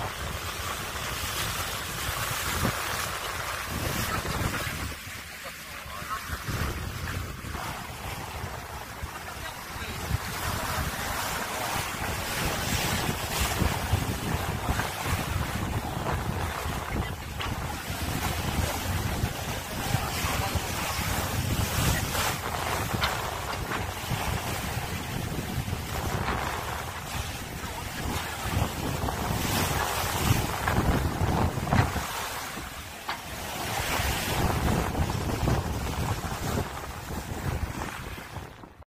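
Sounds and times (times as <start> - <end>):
water splashing along hull: 0.0 - 38.8
wind buffeting microphone: 0.0 - 38.8.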